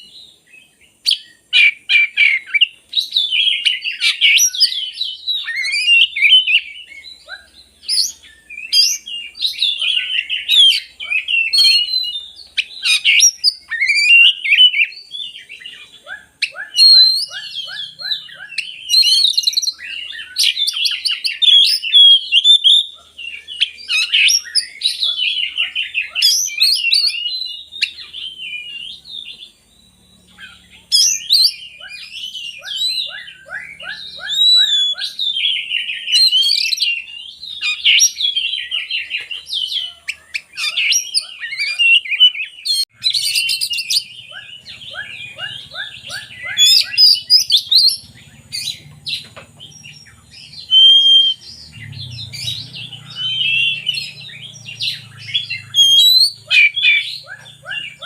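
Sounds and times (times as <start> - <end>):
bird singing whistled phrases: 0.0 - 58.0.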